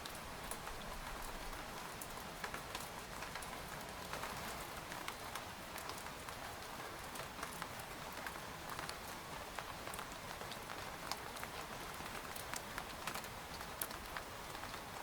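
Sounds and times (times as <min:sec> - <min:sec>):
rain pattering on a tent: 0:00.0 - 0:15.0.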